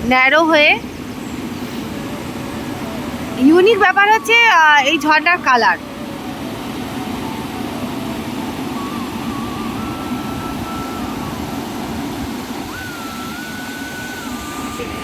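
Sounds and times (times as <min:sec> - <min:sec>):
waterfall rushing over rock: 0:01.3 - 0:15.0.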